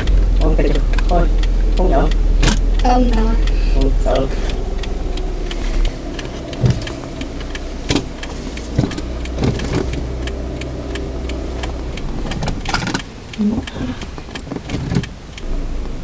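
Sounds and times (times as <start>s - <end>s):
car engine hum inside cabin: 0.0s - 16.0s
knocks and clicks: 0.0s - 16.0s.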